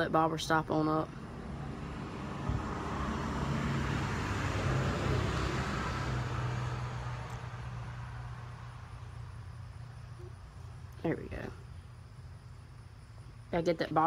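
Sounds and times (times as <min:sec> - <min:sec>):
vehicle passing: 0:01.0 - 0:13.5.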